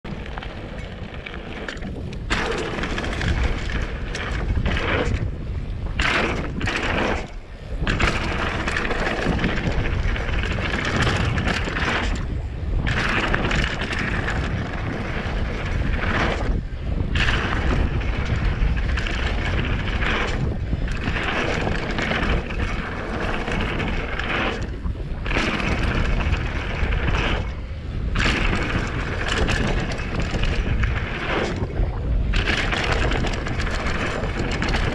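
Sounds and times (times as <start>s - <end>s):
bike rattling: 0.0s - 34.9s
tyres rumbling over dirt: 0.0s - 34.9s
wind buffeting microphone: 0.0s - 34.9s.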